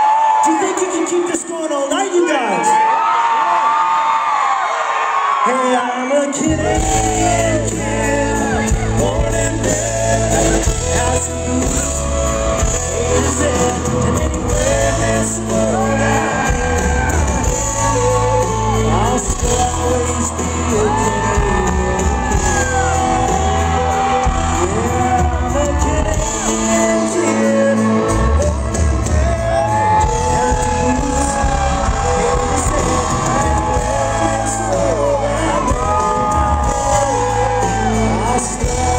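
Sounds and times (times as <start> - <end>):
live country band playing: 5.9 - 38.9
person singing long notes: 6.4 - 38.9.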